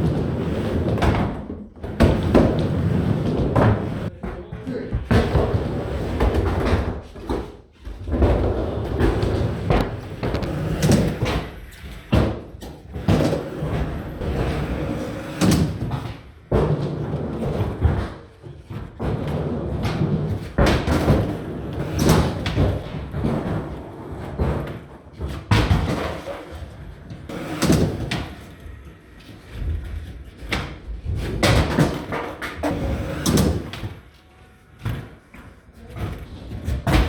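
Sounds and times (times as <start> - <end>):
skateboard wheels rumbling: 0.0 - 4.1, 5.1 - 34.1
skateboards clacking on ramps: 0.0 - 34.1.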